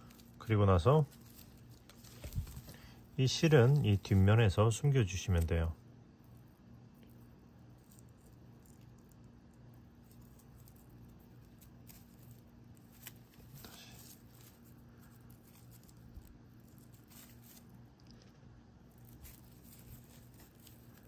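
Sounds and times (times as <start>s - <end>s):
yarn rustling and clicking: 0.0s - 4.4s, 6.9s - 21.0s
low steady hum: 0.0s - 21.0s.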